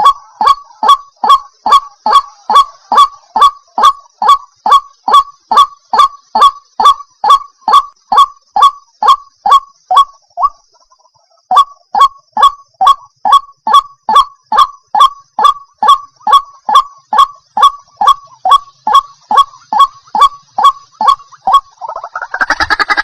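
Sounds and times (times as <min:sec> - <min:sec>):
waterhen calling: 0:00.0 - 0:13.0, 0:13.7 - 0:23.0.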